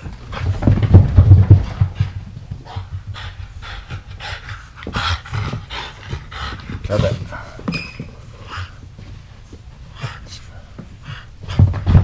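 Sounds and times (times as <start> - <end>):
dog panting: 1.6 - 12.0.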